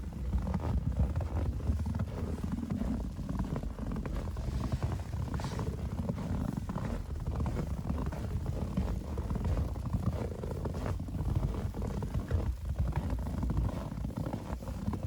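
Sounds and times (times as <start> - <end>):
footsteps crunching in snow: 0.0 - 15.0
wind rumble on microphone: 0.0 - 15.0.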